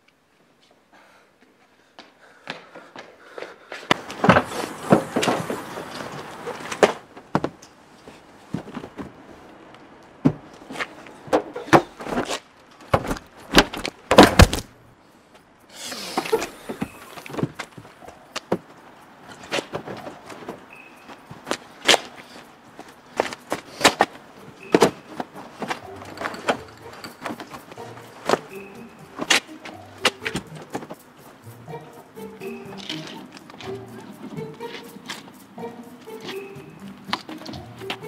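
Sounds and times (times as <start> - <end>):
footsteps: 0.0 - 38.0.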